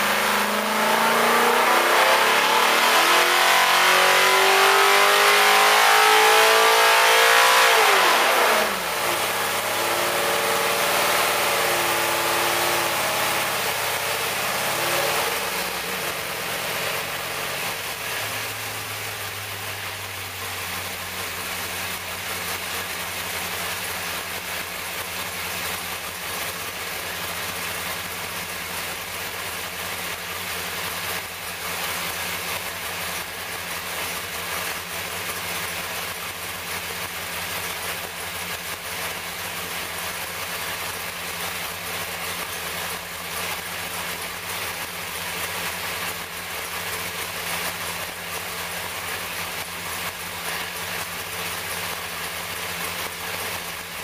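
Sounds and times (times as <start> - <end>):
racing engine running steadily: 0.0 - 54.0.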